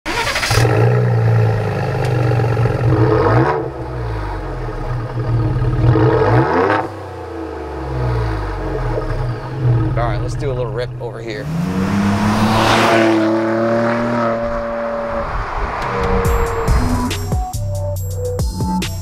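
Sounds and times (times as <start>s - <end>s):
car engine idling and revving: 0.1s - 18.3s.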